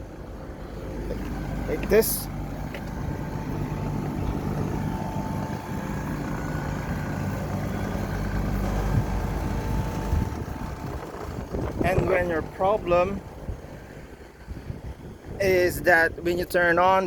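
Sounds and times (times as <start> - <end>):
faint high whine: 0.0 - 14.4
low mechanical hum: 0.0 - 17.0.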